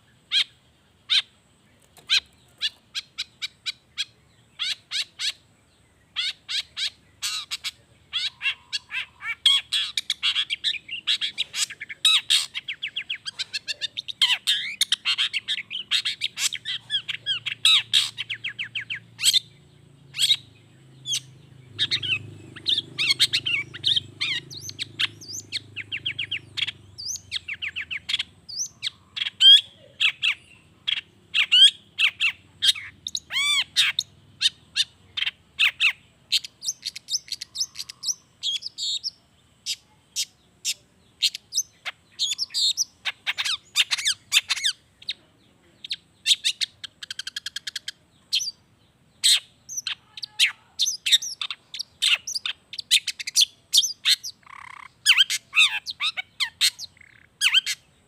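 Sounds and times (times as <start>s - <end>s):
shrike singing varied song: 0.0s - 58.0s.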